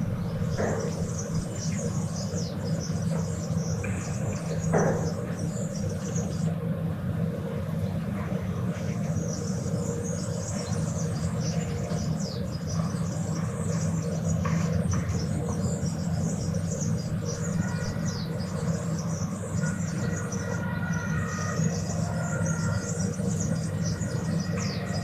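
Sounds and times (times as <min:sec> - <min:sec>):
birds chirping: 0:00.0 - 0:25.0
traffic rumble: 0:00.0 - 0:25.0.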